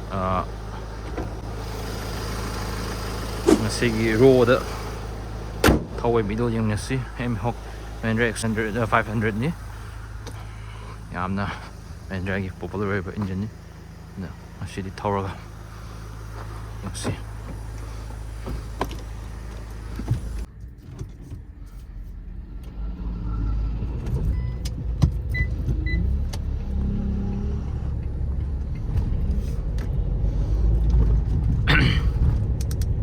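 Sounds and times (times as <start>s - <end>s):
car engine running: 0.0s - 22.8s, 23.8s - 33.0s.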